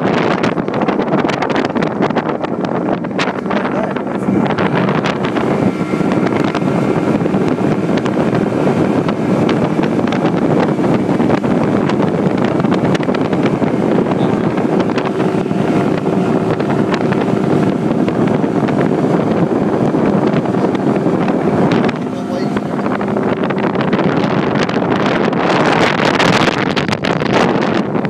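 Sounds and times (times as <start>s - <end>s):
outboard motor running: 0.0s - 28.0s
wind buffeting microphone: 0.0s - 28.0s.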